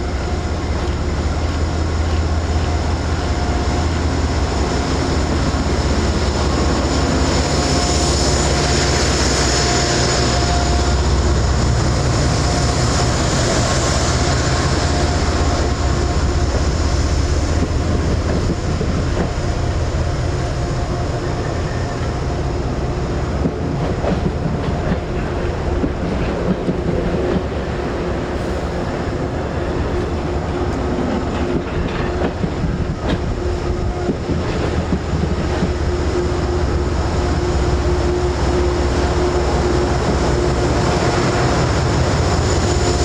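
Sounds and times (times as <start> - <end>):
passenger train passing: 0.0 - 43.0.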